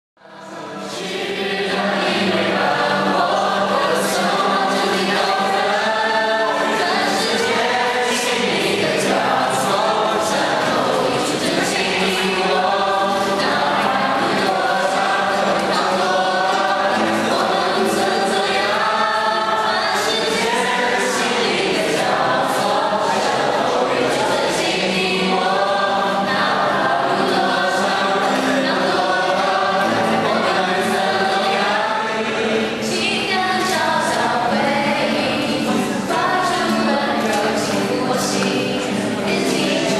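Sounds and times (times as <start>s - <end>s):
young voices singing together: 0.2s - 39.9s
strummed acoustic guitar: 0.4s - 39.9s.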